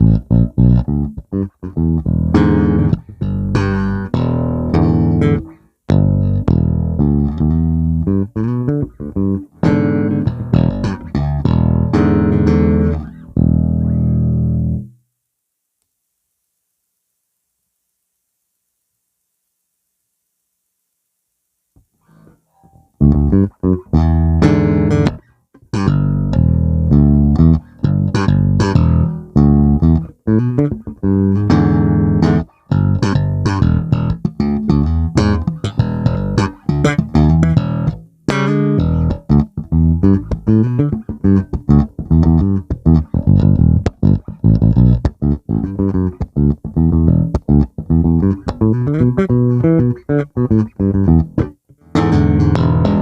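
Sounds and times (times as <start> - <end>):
electric bass plucked notes: 0.0 - 15.0, 22.6 - 53.0.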